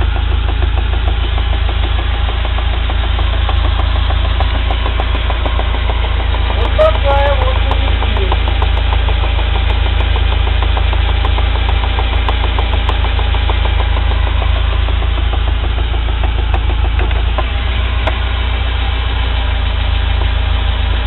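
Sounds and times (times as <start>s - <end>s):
driveshaft knocking: 0.0s - 21.0s
engine running: 0.0s - 21.0s.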